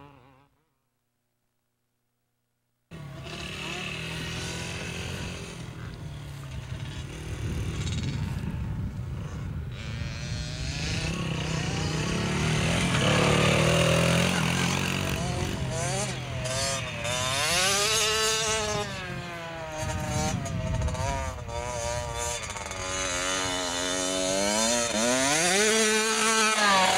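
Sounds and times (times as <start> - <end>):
dirt bike engine revving: 2.9 - 26.9.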